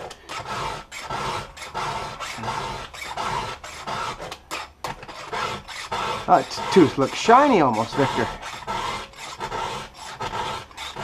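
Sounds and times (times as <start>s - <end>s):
file rasping on saw chain: 0.0s - 11.0s.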